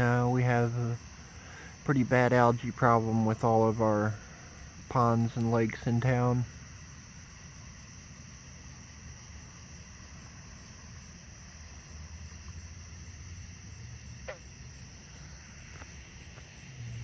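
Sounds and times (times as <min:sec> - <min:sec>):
crickets trilling: 0:00.0 - 0:17.0
distant road traffic rumble: 0:00.0 - 0:17.0.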